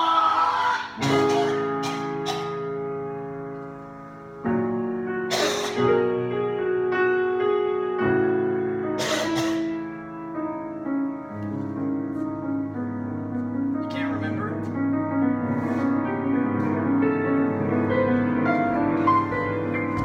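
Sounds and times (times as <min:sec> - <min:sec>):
piano playing slow chords: 0:00.0 - 0:20.0.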